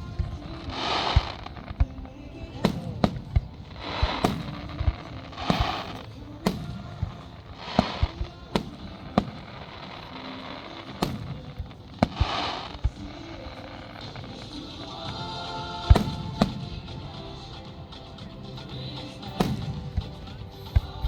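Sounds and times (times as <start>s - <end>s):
fireworks bangs: 0.0s - 21.0s
fireworks crackling hisses: 0.0s - 21.0s.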